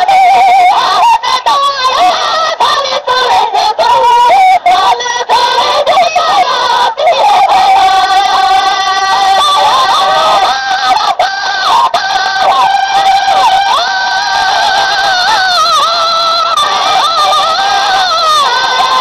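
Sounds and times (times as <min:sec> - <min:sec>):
man singing devotional song: 0:00.0 - 0:19.0.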